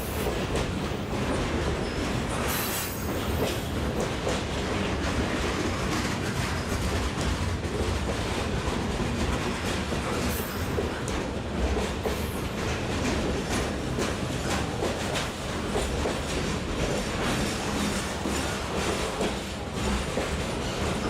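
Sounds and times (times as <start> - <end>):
train rumble: 0.0 - 21.0
train wheels clacking over rails: 0.0 - 21.0.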